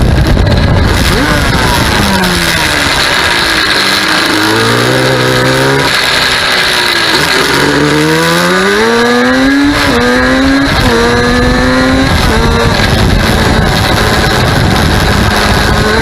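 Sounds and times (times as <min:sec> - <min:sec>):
quad bike engine revving: 0:00.0 - 0:16.0.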